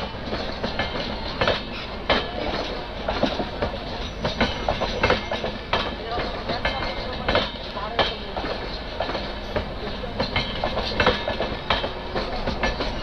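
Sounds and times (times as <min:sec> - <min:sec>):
train wheels rumbling on rails: 0:00.0 - 0:13.0
wheels clicking over rail joints: 0:00.0 - 0:13.0.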